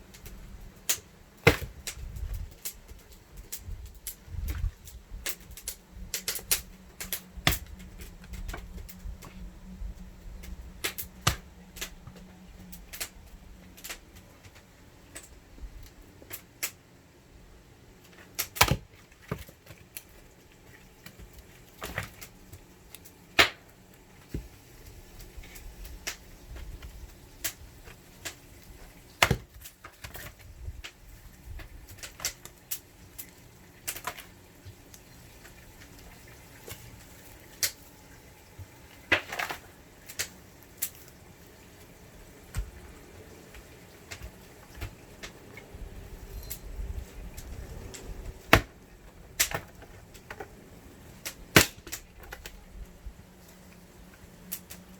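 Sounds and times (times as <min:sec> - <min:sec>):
low steady hum: 0:00.0 - 0:54.9.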